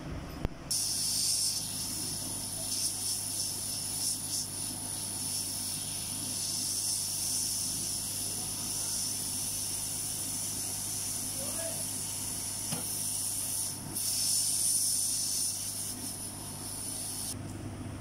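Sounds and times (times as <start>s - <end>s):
hot air gun hissing: 0.7s - 17.4s.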